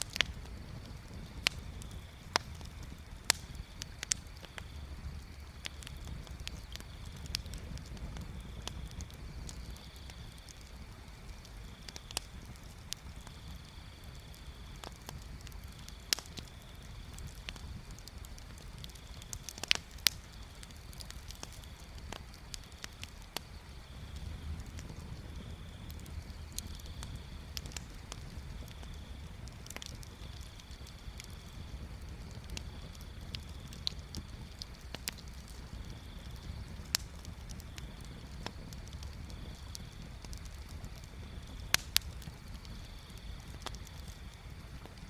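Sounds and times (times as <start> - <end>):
bonfire crackling and popping: 0.0 - 45.0
steady low rumble: 0.0 - 45.0.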